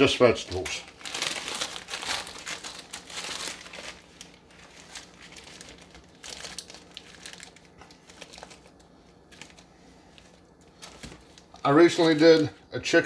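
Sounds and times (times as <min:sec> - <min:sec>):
plastic bag crinkling: 0:00.5 - 0:12.6.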